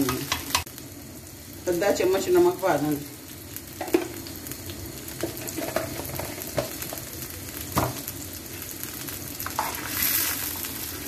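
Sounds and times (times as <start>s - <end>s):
food simmering in a wok: 0.0s - 11.0s.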